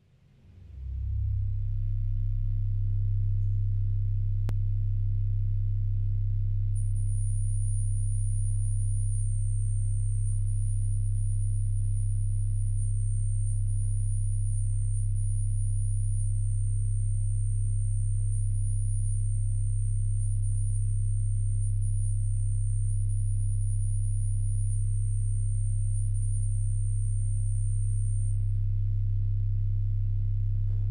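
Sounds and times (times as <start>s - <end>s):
pipe organ low drone: 0.4s - 30.9s.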